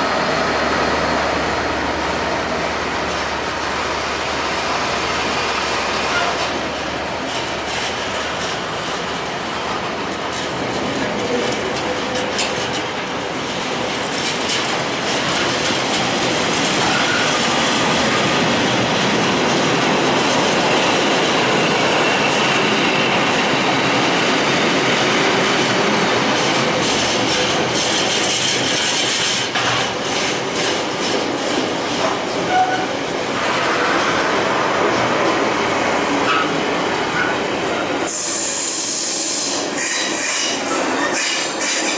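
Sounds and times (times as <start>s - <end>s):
train rumbling on track: 0.0s - 41.9s.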